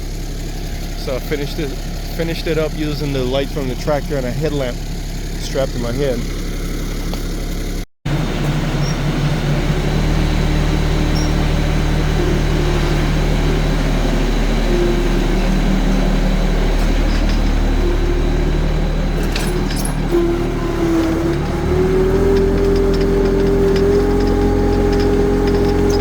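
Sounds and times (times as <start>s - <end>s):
diesel tractor idling: 0.0s - 26.0s.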